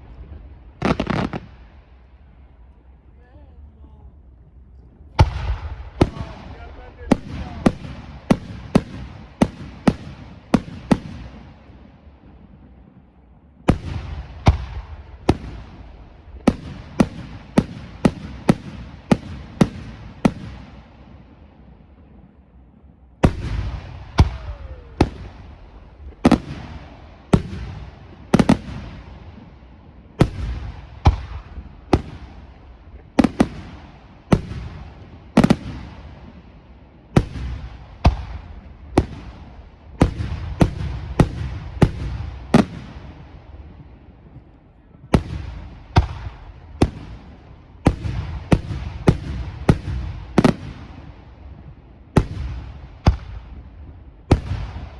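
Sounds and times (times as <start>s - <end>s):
firework crackle: 0.0s - 4.1s, 4.8s - 54.9s.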